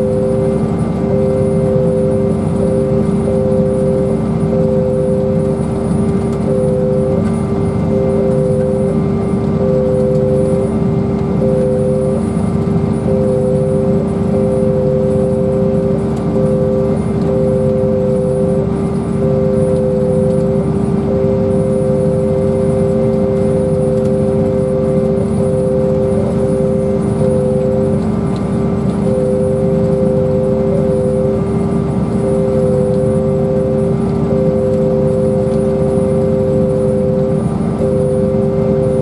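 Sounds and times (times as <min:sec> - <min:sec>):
farm machine drone from cab: 0:00.0 - 0:39.0
higher intermittent whine: 0:00.0 - 0:39.0.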